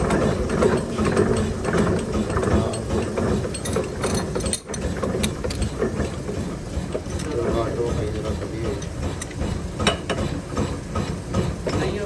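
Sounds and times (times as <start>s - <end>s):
milling machine clattering: 0.0s - 12.0s.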